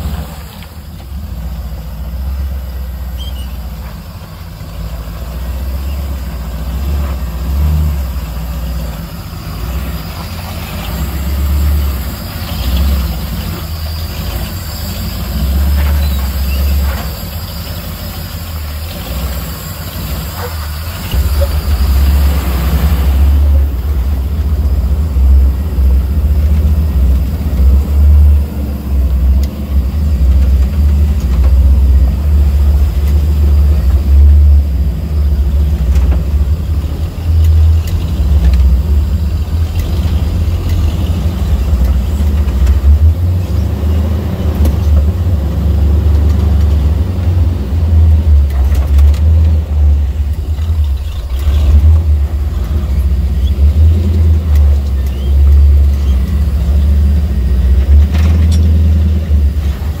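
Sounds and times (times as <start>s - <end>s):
off-road vehicle engine rumble: 0.0s - 60.0s.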